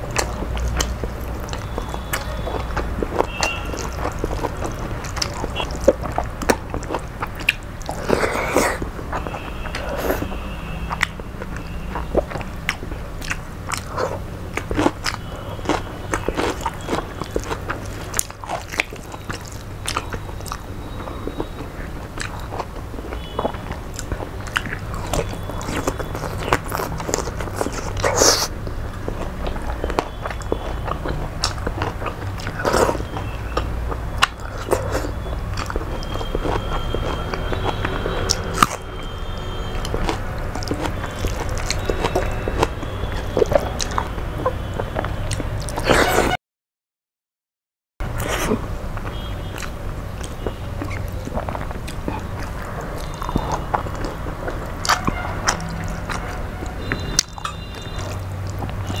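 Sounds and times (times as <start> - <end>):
chewing and biting food: 0.0 - 46.3, 48.0 - 59.0
mouth clicks: 0.1 - 46.4, 48.0 - 59.0.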